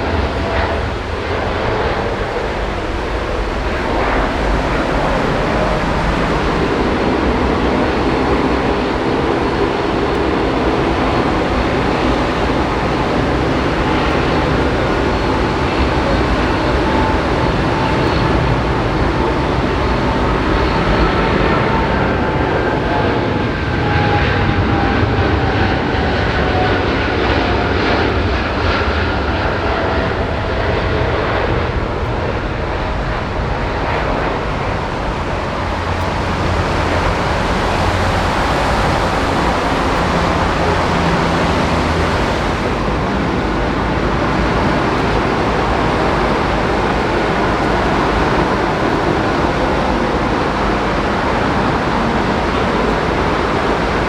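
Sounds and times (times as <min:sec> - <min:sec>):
faint engine whine: 0:00.0 - 0:54.0
jet engines rushing: 0:00.0 - 0:54.0.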